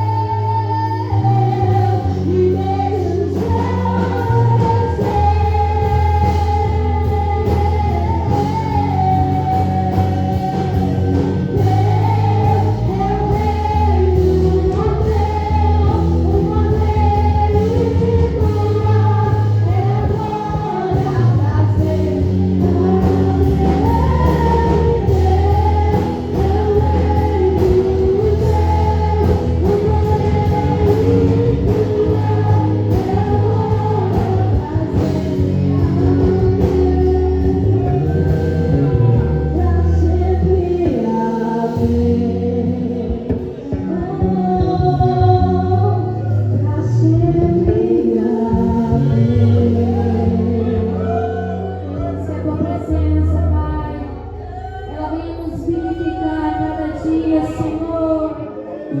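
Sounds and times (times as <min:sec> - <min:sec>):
band with sustained bass: 0:00.0 - 0:59.0
voices singing gospel music: 0:00.0 - 0:59.0.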